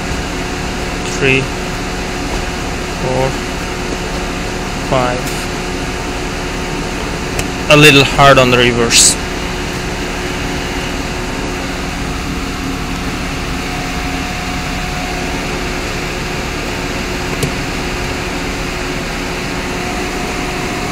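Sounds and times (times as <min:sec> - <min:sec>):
car cabin mechanical hum: 0:00.0 - 0:20.9.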